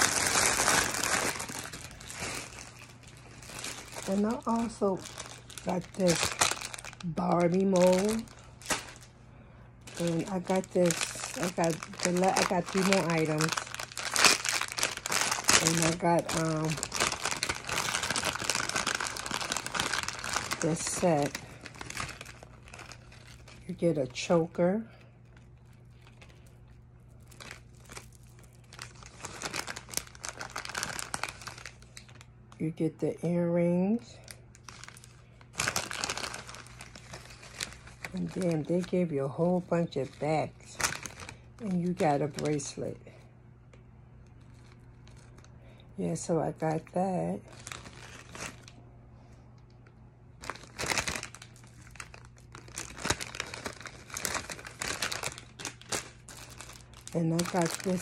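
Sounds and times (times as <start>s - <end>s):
plastic bag crinkling: 0.0s - 32.3s, 34.0s - 43.0s, 44.2s - 46.3s, 47.4s - 48.8s, 50.4s - 58.0s
sharp plastic crackle: 0.0s - 32.6s, 34.1s - 43.0s, 43.7s - 45.8s, 47.4s - 48.9s, 49.6s - 58.0s.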